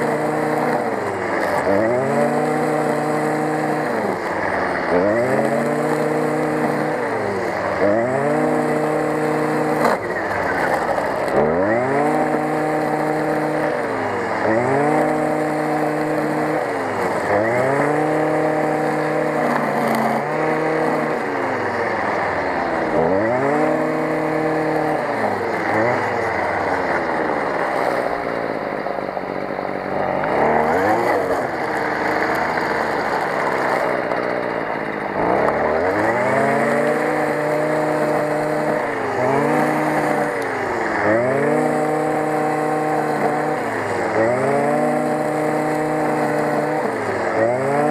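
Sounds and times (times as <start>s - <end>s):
brush cutter engine revving: 0.0s - 47.9s
trimmer line cutting grass: 0.0s - 47.9s.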